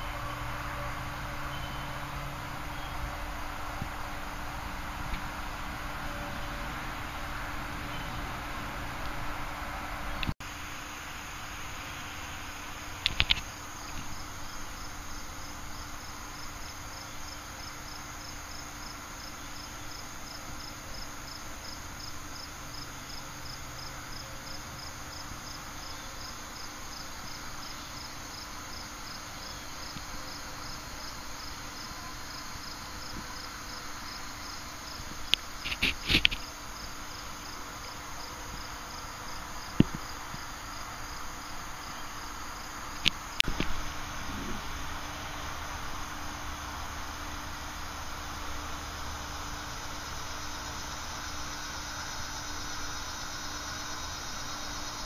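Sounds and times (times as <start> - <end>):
faint steady hiss: 0.0 - 55.0
insect chirping: 0.0 - 55.0.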